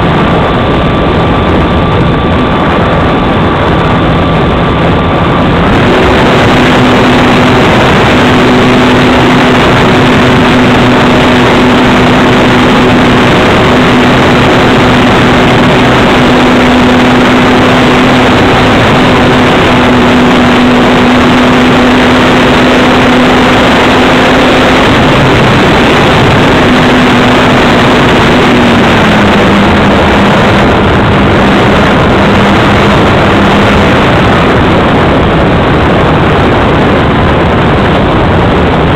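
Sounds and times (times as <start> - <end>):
model aircraft motor and propeller: 0.0 - 35.4
wind rushing over microphone: 0.0 - 38.9.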